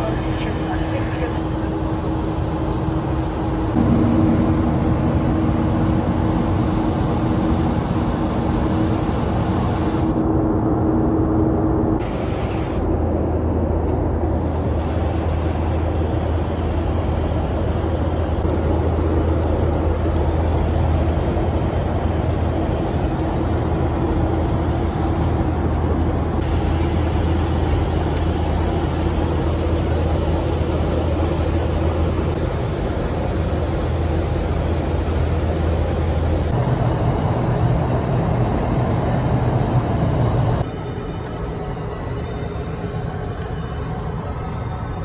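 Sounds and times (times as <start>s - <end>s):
low cabin hum: 0.0s - 41.6s
airliner cabin engine and airflow rush: 0.0s - 45.0s.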